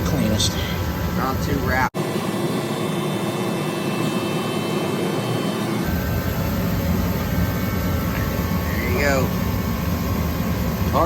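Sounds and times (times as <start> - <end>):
faint hum: 0.0 - 11.0
rushing mechanical noise: 0.0 - 11.0.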